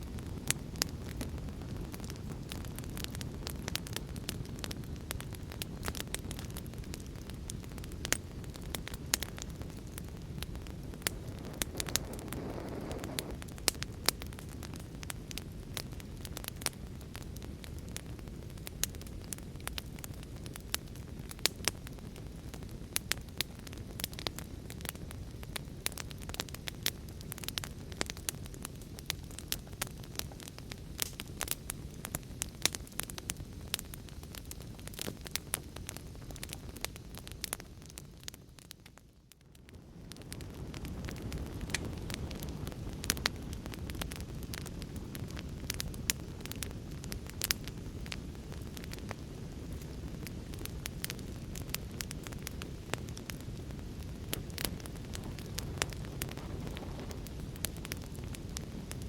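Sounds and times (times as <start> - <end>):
fire crackling and popping: 0.0 - 59.0
low rumble of burning: 0.0 - 59.0.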